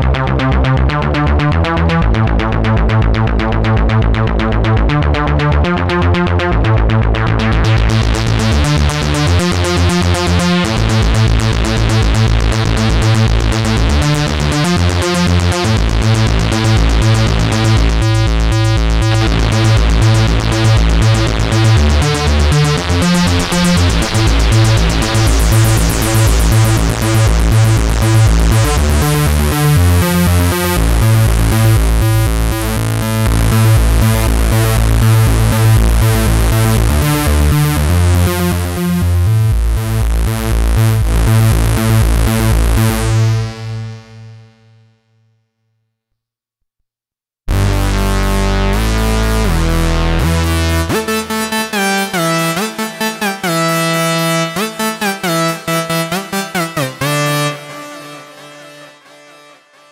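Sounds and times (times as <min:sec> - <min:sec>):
arpeggiated synthesizer notes: 0:00.0 - 0:44.6, 0:47.5 - 0:59.9.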